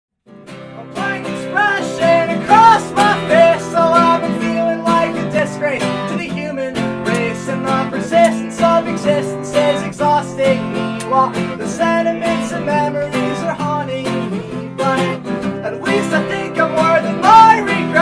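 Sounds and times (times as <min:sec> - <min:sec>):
acoustic guitar strumming: 0:00.2 - 0:18.0.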